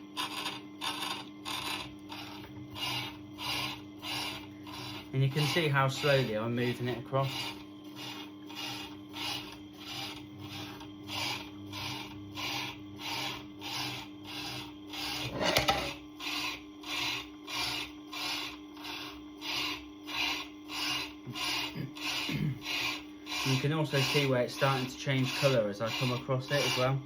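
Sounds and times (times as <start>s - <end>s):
diamond scraping grinding stone: 0.0s - 27.0s
machine motor hum: 0.0s - 27.0s.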